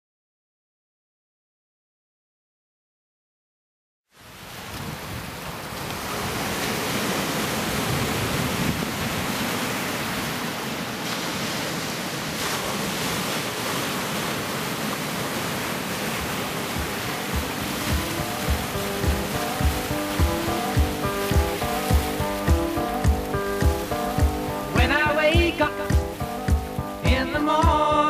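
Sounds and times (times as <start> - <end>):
ocean surf breaking on rocks: 4.2 - 28.0.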